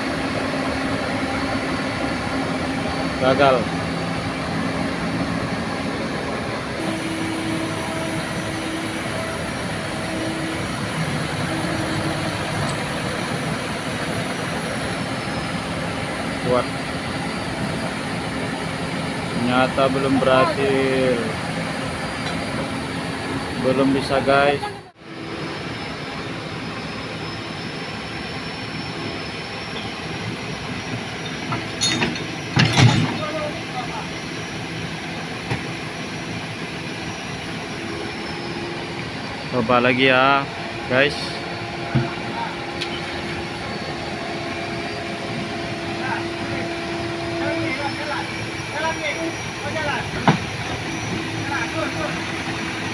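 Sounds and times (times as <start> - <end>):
diesel engine rumbling: 0.0 - 52.9
faint high whine: 0.0 - 52.9.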